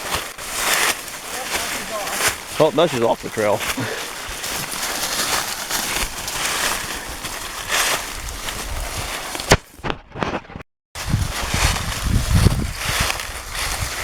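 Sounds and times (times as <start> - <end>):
footsteps crunching dry leaves: 0.0 - 9.8, 11.0 - 14.0.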